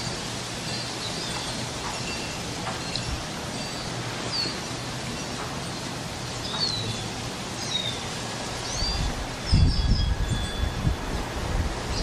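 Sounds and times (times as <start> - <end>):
small birds chirping: 0.0 - 10.9
wind blowing: 0.0 - 12.0.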